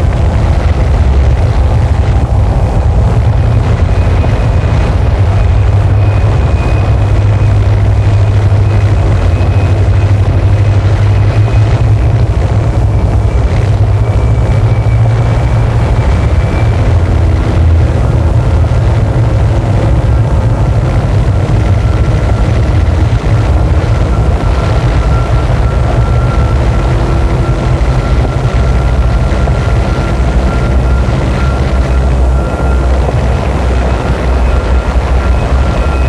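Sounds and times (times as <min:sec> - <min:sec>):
dense distorted noise: 0:00.0 - 0:36.0
heavy low rumble: 0:00.0 - 0:36.0.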